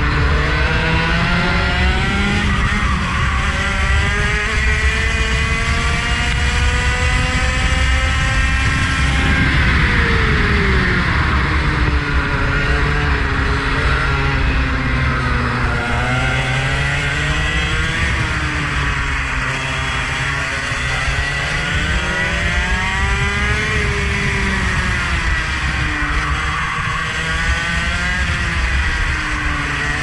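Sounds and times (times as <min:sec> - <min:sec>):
engine accelerating and lifting: 0:00.0 - 0:30.0.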